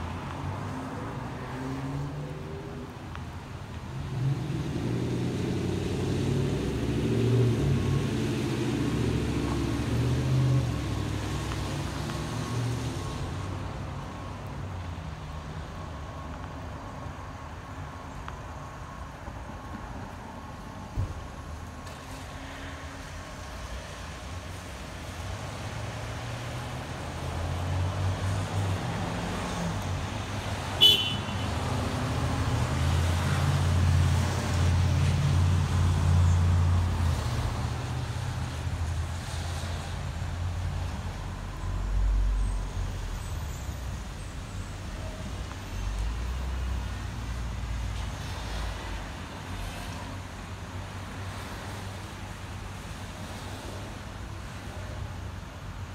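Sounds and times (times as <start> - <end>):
tyres hissing on wet road: 0.0 - 15.6, 19.0 - 55.9
vehicle engines passing: 0.0 - 55.9.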